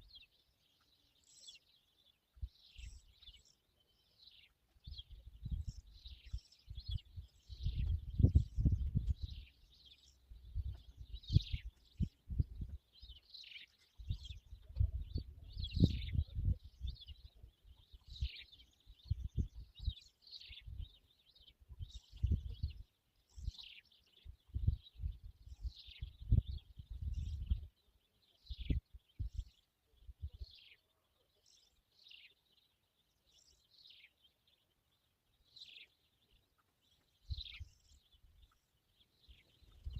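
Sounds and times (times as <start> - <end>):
songbird calling: 0.0 - 39.9.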